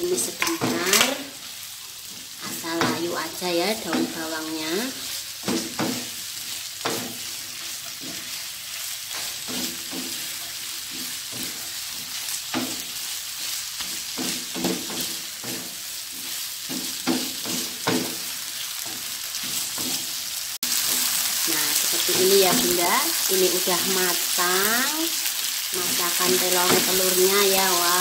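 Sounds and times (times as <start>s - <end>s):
wooden spatula scraping a wok: 0.0s - 23.1s
food sizzling in a wok: 0.0s - 28.0s.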